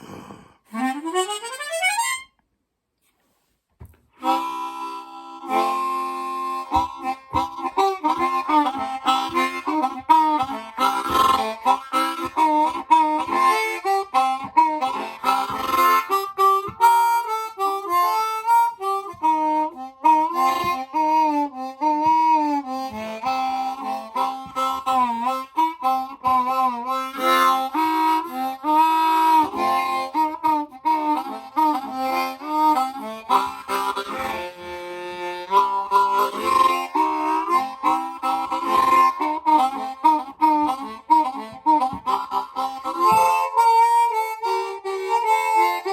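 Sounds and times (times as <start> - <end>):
blues harmonica playing: 0.0 - 2.4, 4.2 - 45.9.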